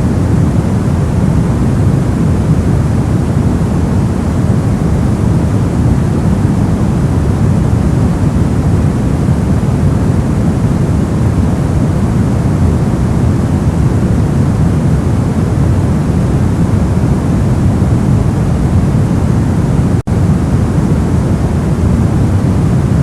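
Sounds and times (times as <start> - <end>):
deep rushing white noise: 0.0 - 23.0.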